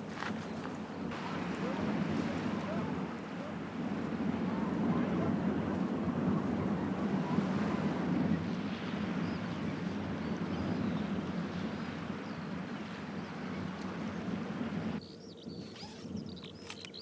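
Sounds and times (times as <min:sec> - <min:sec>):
wind buffeting microphone: 0:00.0 - 0:17.0
surf washing: 0:00.1 - 0:15.0.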